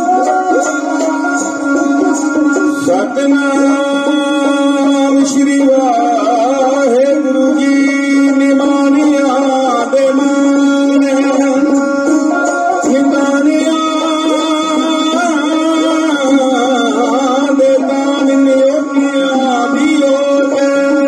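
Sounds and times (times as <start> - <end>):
hand drums: 0.0 - 21.0
man singing: 0.0 - 21.0.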